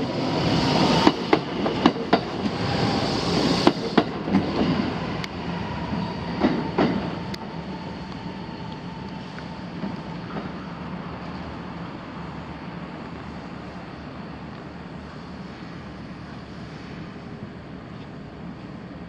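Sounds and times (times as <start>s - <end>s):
electric train rumble and hum: 0.0s - 19.0s.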